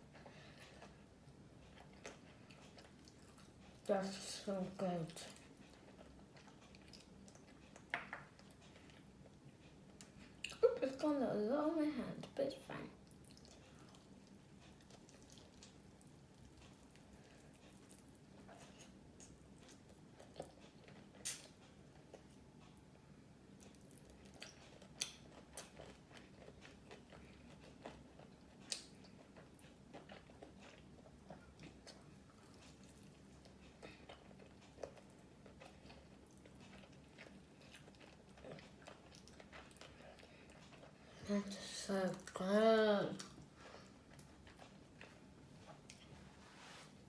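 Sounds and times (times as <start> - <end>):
person chewing food: 0.0 - 3.9, 5.0 - 10.7, 13.0 - 41.2, 43.2 - 47.0.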